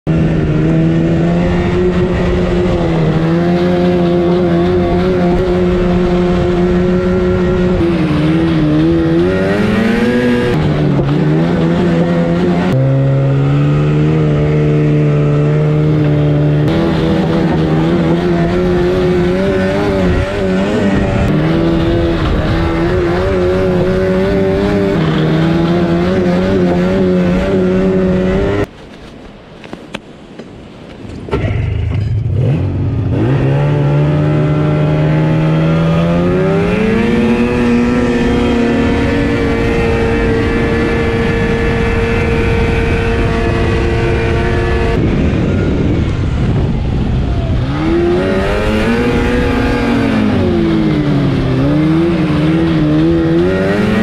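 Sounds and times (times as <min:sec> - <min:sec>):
snowmobile engine running: 0:00.0 - 0:29.8, 0:31.3 - 0:54.0.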